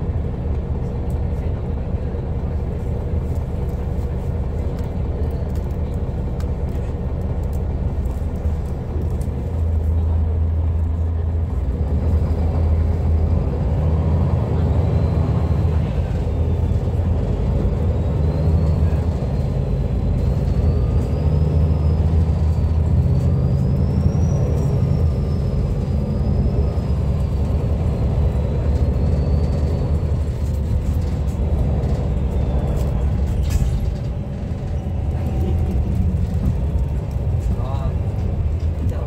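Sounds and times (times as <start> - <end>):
bus diesel engine drone: 0.0 - 39.0.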